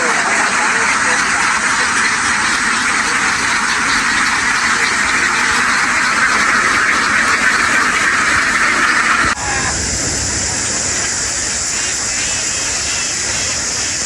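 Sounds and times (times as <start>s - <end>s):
flock of ducks quacking: 0.0s - 9.8s, 10.5s - 14.0s.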